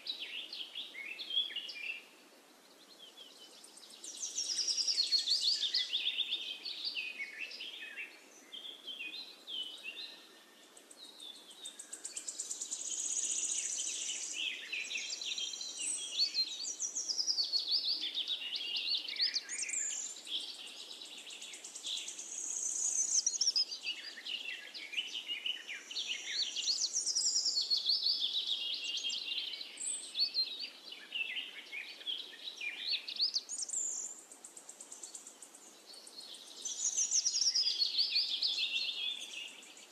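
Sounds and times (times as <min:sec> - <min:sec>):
birds chirping and singing: 0:02.8 - 0:39.9.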